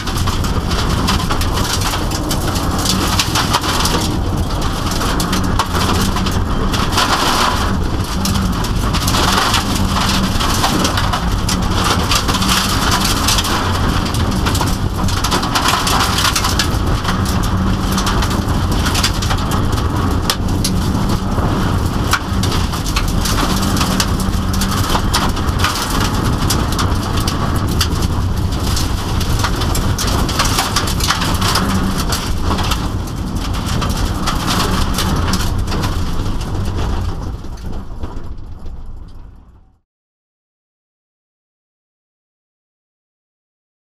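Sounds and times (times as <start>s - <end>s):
gravel pelting car underbody: 0.0s - 39.2s
car engine running hard: 0.0s - 39.8s.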